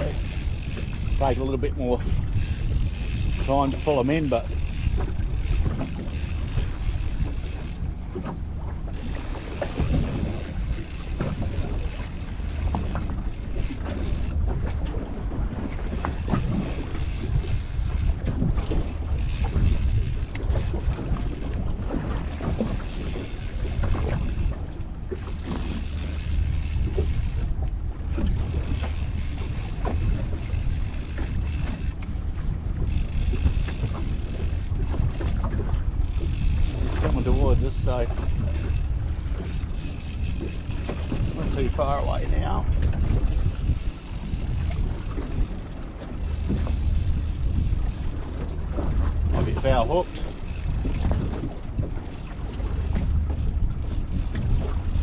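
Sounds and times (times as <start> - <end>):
choppy sea: 0.0 - 55.0
water slapping boat hull: 0.0 - 55.0
wind buffeting microphone: 0.0 - 55.0.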